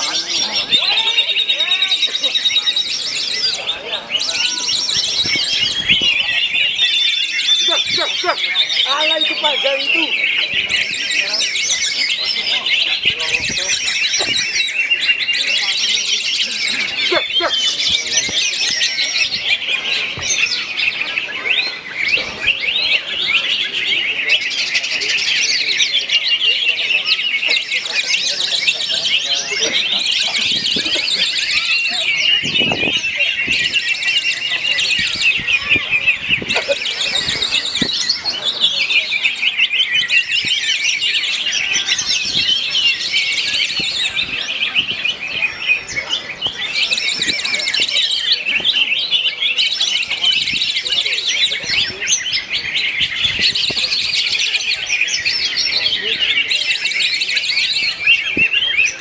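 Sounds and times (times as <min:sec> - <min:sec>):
birds singing with fast trills: 0:00.0 - 0:59.0.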